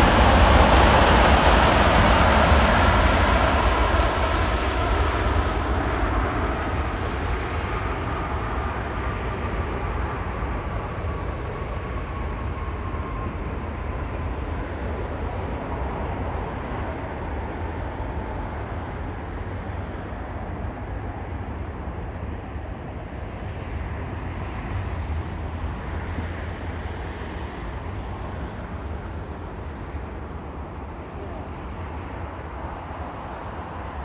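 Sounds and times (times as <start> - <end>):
jet aircraft rumble: 0.0 - 34.0.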